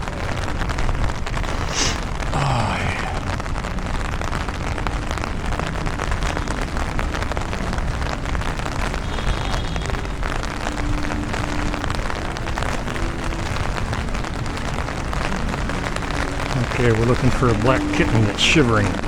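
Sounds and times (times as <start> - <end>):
heavy rain pattering: 0.0 - 19.0
vehicle traffic: 1.4 - 19.0.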